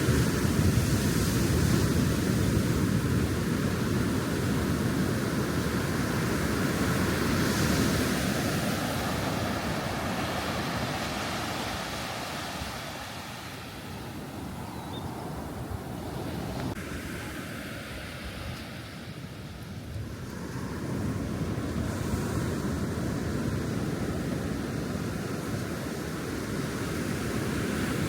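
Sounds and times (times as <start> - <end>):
ocean waves washing onto beach: 0.0 - 28.0.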